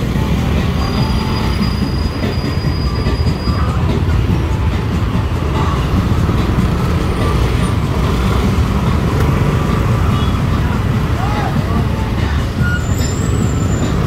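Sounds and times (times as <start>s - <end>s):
motorcycles idling: 0.0s - 14.0s
street traffic: 0.0s - 14.0s.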